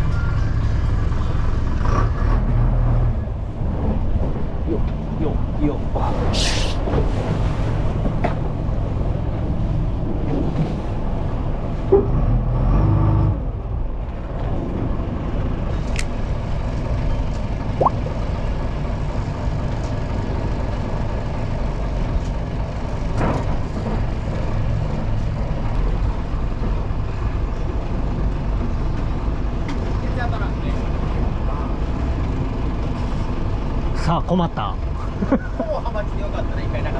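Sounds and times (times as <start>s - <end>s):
boat engine droning: 2.4s - 36.9s.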